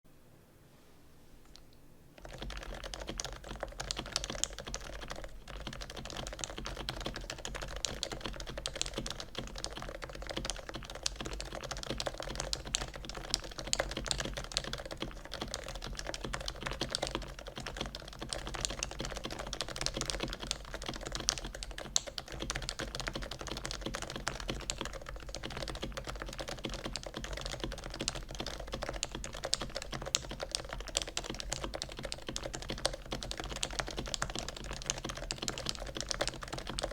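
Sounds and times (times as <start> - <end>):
fast keyboard typing: 2.2 - 36.9.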